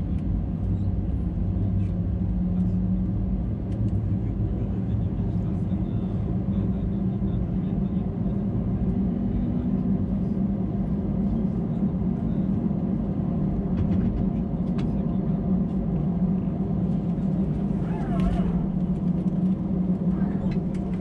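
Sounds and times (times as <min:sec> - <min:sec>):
cabin low drone: 0:00.0 - 0:21.0.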